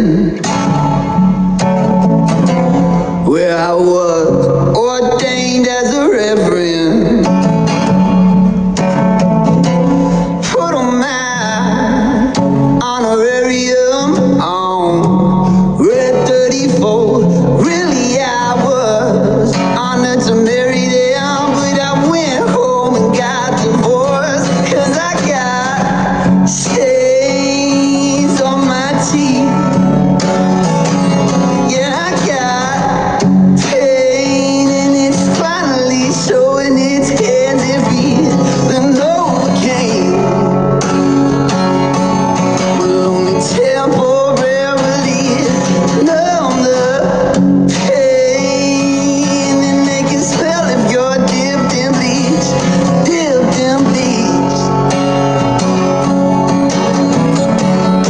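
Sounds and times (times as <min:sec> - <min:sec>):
song with singing and guitar: 0:00.0 - 0:58.0.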